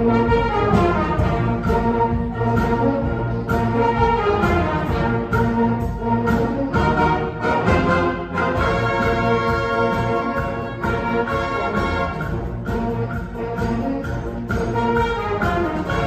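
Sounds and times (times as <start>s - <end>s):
concert band playing chords: 0.0s - 16.0s
low tuba part: 0.0s - 16.0s.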